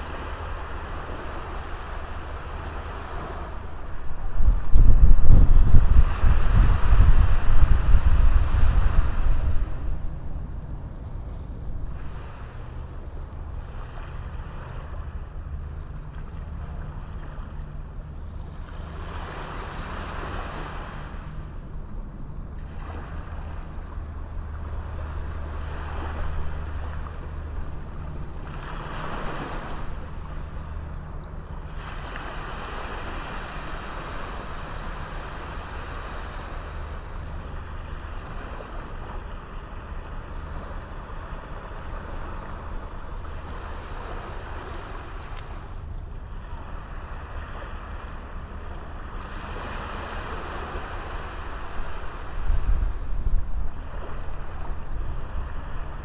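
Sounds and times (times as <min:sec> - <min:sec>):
low surf rumble: 0:00.0 - 0:56.0
sea waves breaking on beach: 0:00.0 - 0:56.0.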